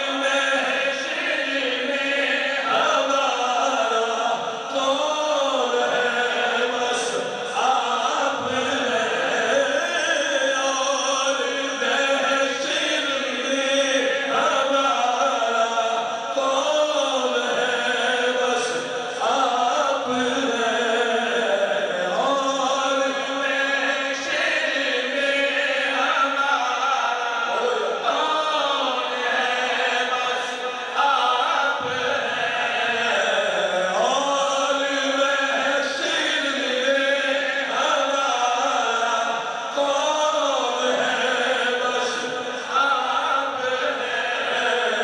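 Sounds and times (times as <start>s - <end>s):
lead singer singing: 0.0s - 45.0s
men chanting in chorus: 0.0s - 45.0s.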